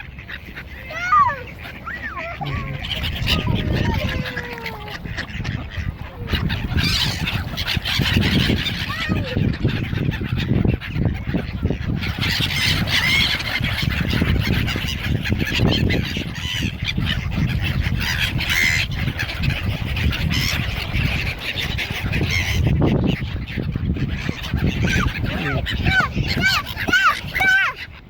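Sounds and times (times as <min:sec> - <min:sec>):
gulls and waterfowl calling: 0:00.0 - 0:28.0.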